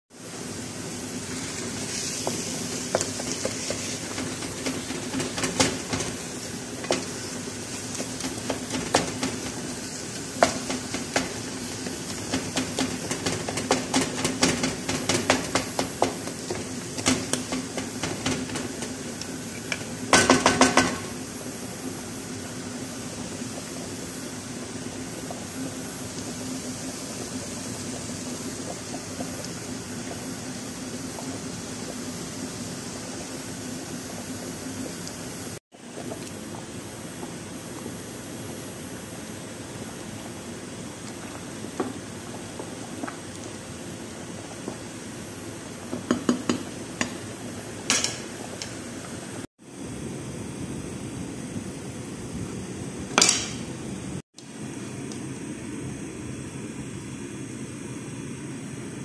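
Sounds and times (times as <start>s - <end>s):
frying hiss: 0.1s - 59.0s
steady hum: 0.2s - 59.0s.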